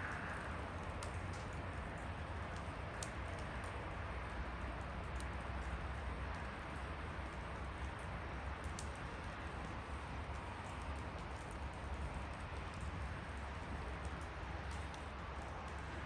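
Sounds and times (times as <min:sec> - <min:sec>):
burning wood crackling: 0:00.0 - 0:16.0
wood fire burning: 0:00.0 - 0:16.0.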